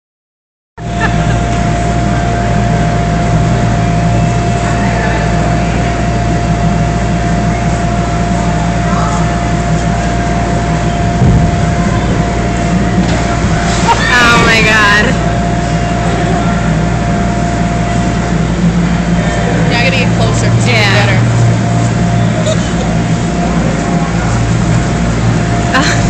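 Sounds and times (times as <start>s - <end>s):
electric blower fans running: 0.8s - 26.0s.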